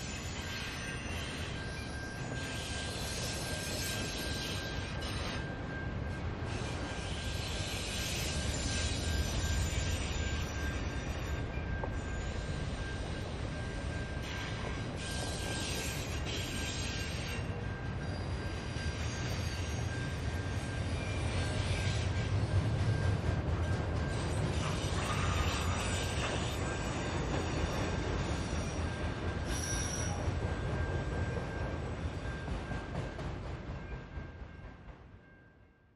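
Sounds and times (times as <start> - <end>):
rumble of wheels on rail: 0.0 - 35.8
high squeal of train wheels: 0.0 - 35.9.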